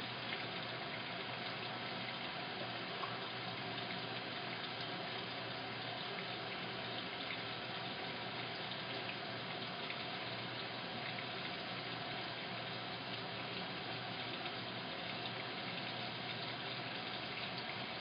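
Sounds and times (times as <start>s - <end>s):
water rushing into washing machine: 0.0s - 18.0s.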